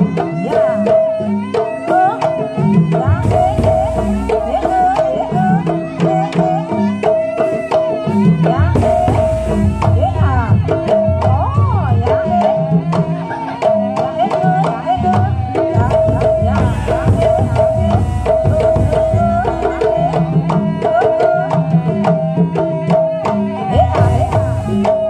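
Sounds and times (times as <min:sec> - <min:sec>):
kendang hand drums: 0:00.0 - 0:25.0.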